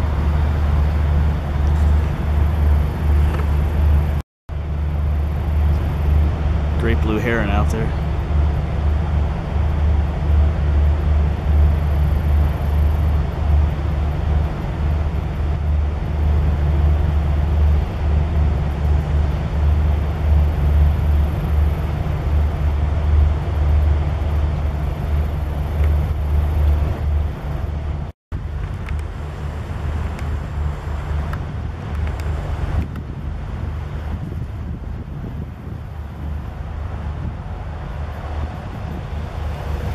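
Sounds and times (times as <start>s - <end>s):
distant highway traffic rumble: 0.0s - 39.9s.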